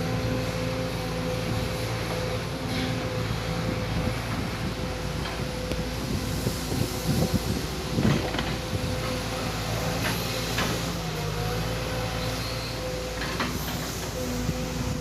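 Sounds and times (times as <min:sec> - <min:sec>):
excavator diesel engine whining: 0:00.0 - 0:15.0.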